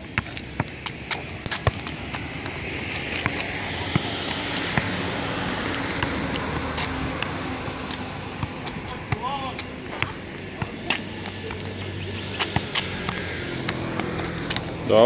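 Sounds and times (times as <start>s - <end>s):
steady rushing noise: 0.0s - 15.0s
shoe scuffs on asphalt: 0.2s - 14.9s.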